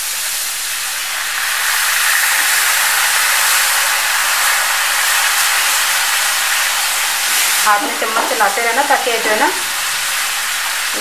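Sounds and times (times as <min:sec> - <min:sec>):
milk sizzling in hot pan: 0:00.0 - 0:11.0.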